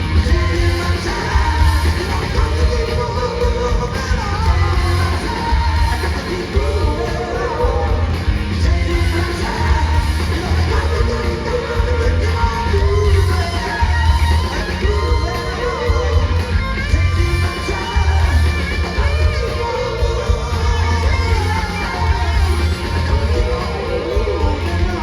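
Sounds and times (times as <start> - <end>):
electric guitar lines: 0.0 - 25.0
live rock band playing: 0.0 - 25.0.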